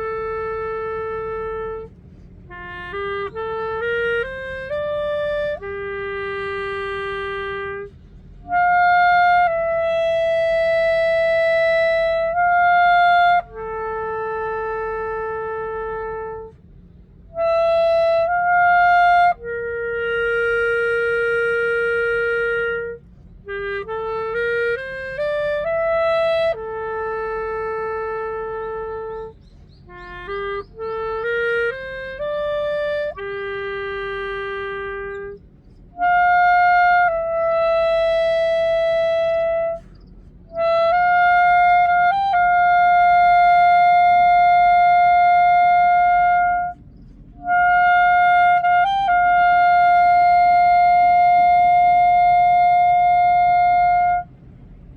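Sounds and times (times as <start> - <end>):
solo clarinet melody: 0.0 - 54.9.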